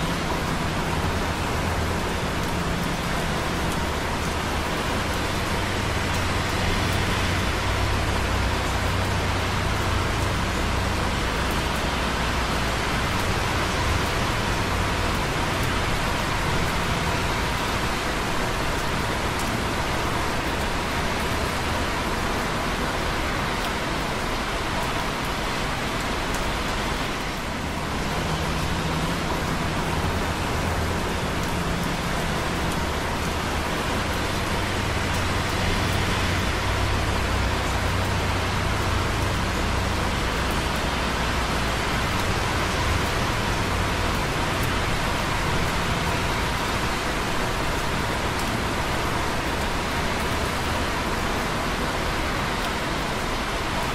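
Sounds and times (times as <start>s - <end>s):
rain dripping on concrete: 0.0s - 53.9s
traffic on wet roads: 0.0s - 53.9s.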